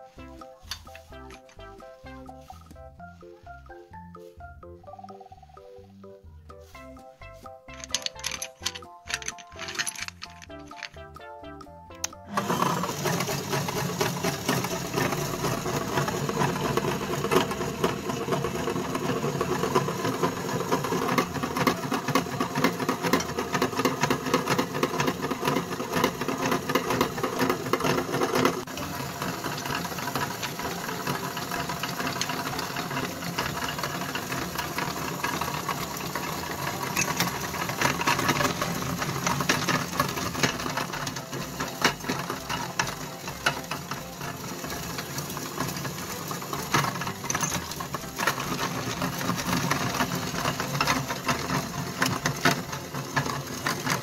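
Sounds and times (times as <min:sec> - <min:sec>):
meat grinder grinding crayons: 0:00.0 - 0:03.8, 0:06.7 - 0:11.2, 0:11.9 - 0:54.0.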